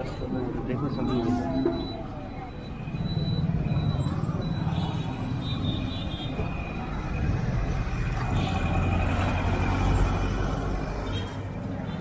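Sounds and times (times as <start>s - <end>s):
motorcycle engines passing: 0.0s - 12.0s
vehicles passing: 0.0s - 12.0s.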